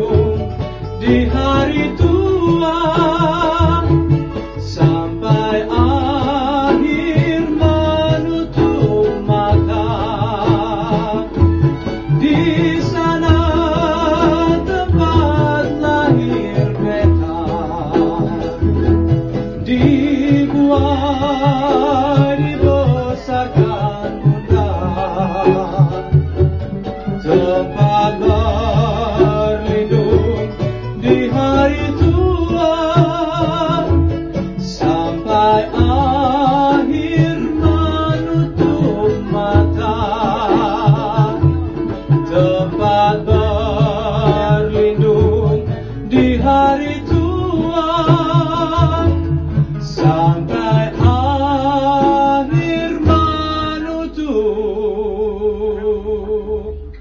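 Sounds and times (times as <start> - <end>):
plucked double bass: 0.0 - 57.0
small ukuleles: 0.0 - 57.0
strummed and plucked guitars: 0.0 - 57.0.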